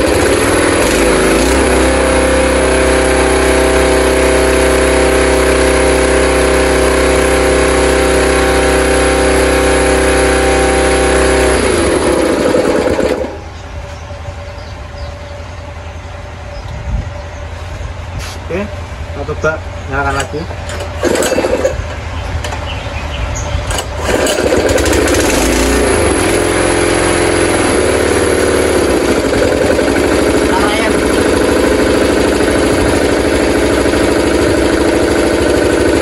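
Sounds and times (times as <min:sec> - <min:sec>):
small petrol engine running: 0:00.0 - 0:13.8, 0:19.4 - 0:36.0.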